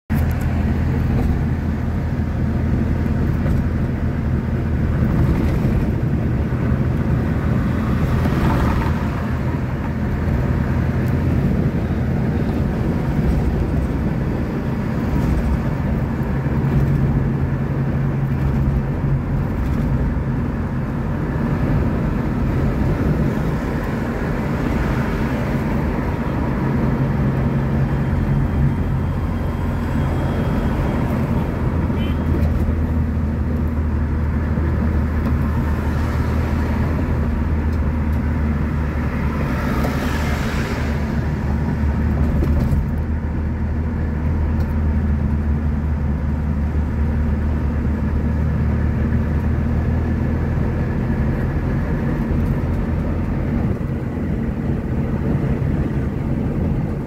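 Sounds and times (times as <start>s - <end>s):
vehicle cabin road noise: 0.1s - 57.0s.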